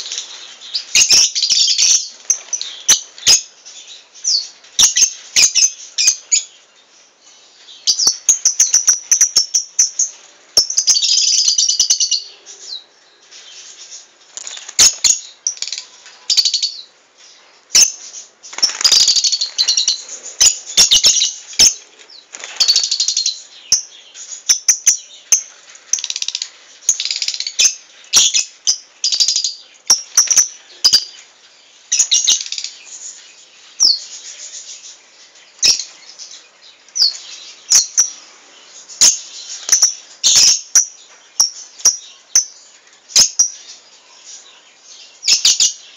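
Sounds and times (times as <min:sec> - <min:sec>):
lovebirds chirping and chattering: 0:00.0 - 0:45.9.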